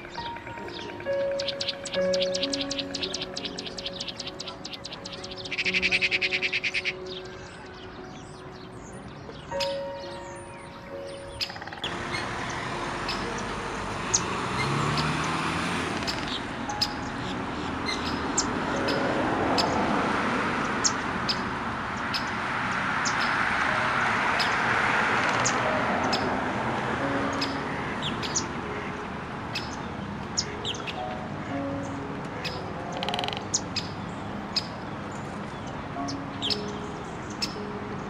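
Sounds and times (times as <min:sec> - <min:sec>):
birds chirping: 0:00.0 - 0:26.4, 0:27.0 - 0:38.0.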